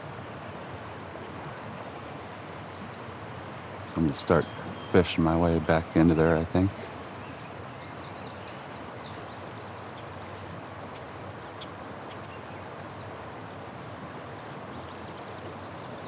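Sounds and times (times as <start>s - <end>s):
outdoor background hiss: 0.0s - 16.0s
small birds chirping: 0.4s - 16.0s.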